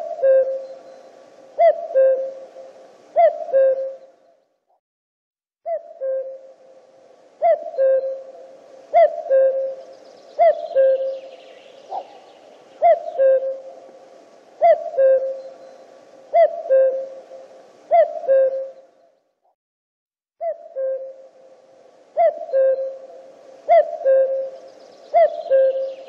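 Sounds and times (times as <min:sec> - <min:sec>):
cuckoo calling: 0:00.0 - 0:04.4, 0:05.7 - 0:19.1, 0:20.4 - 0:26.0.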